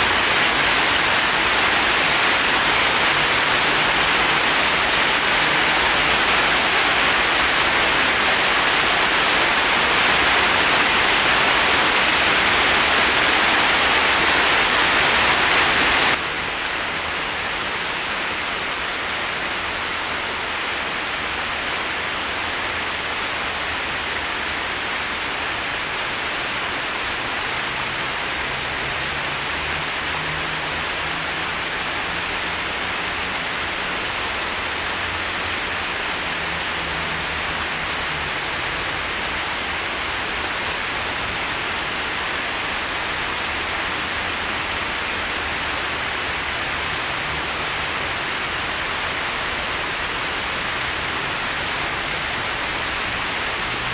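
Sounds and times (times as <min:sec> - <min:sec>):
heavy rain on leaves and stone: 0:00.0 - 0:53.9.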